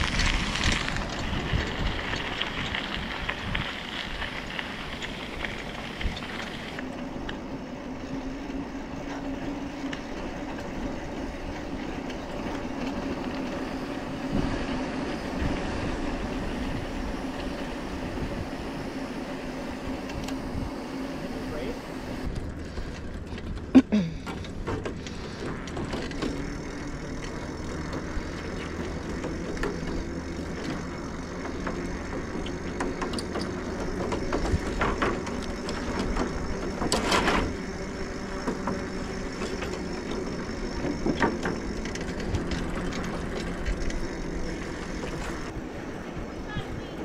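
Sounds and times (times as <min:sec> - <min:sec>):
bicycle tyres rumbling on grated deck: 0:00.0 - 0:47.0.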